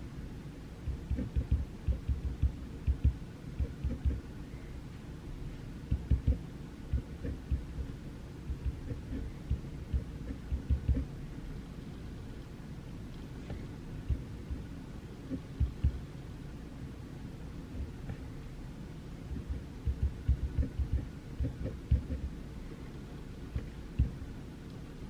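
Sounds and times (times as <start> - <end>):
low background hiss: 0.0 - 25.0.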